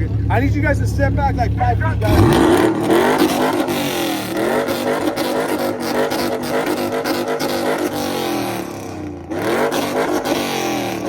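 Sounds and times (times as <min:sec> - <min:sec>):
car engine revving: 0:00.0 - 0:11.0
engine bouncing on rev limiter: 0:00.0 - 0:11.0.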